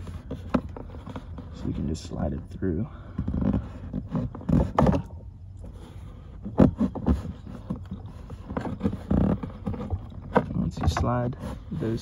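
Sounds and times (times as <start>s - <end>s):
knocks and rattles of handling: 0.0s - 12.0s
low steady rumble: 0.0s - 12.0s.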